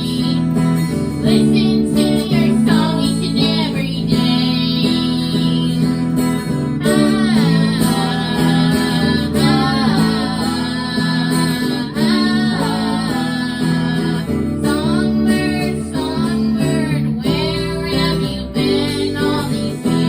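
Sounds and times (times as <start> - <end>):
acoustic guitar chords: 0.0 - 20.0
person singing: 0.0 - 20.0.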